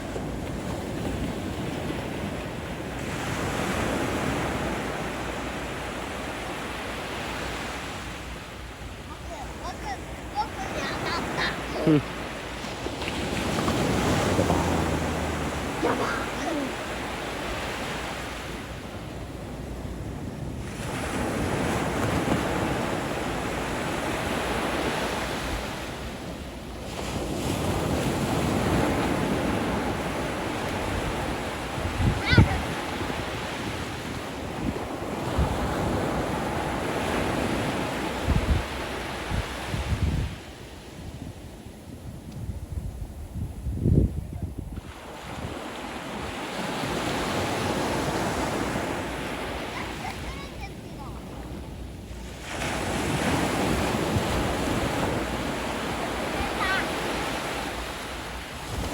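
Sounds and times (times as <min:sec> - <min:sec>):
wind buffeting microphone: 0:00.0 - 0:26.4, 0:27.1 - 0:58.9
ocean waves washing onto shore: 0:00.0 - 0:58.9.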